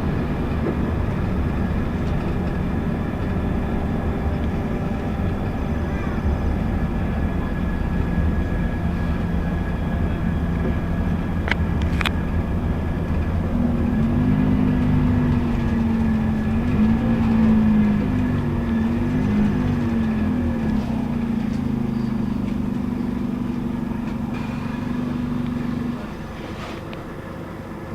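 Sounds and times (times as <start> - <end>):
bus diesel engine: 0.0 - 27.9.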